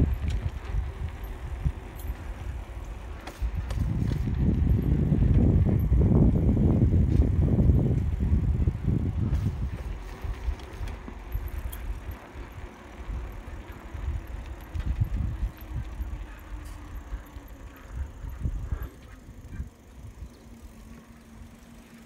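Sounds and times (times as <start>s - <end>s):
wind buffeting microphone: 0.0s - 21.6s
bicycle tyres rolling on concrete: 0.0s - 22.0s.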